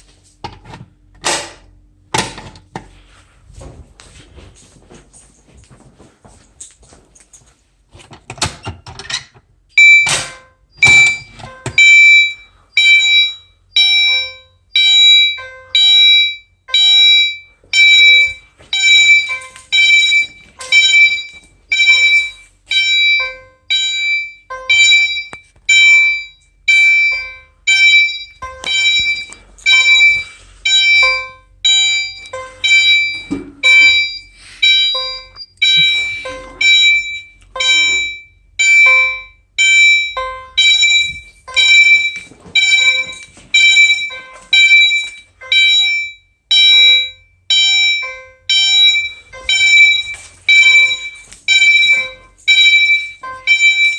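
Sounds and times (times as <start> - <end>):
fire alarm ringing: 9.7 - 53.9.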